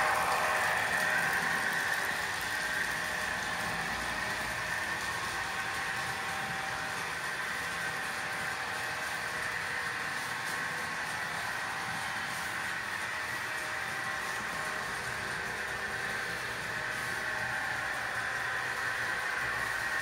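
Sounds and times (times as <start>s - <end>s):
model train electric whir: 0.0s - 20.0s.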